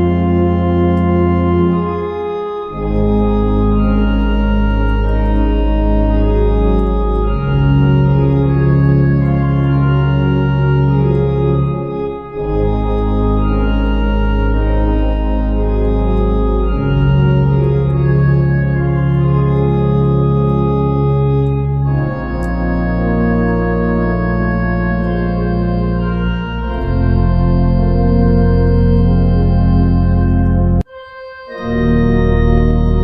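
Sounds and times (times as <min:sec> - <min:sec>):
pipe organ playing a hymn: 0:00.0 - 0:33.0.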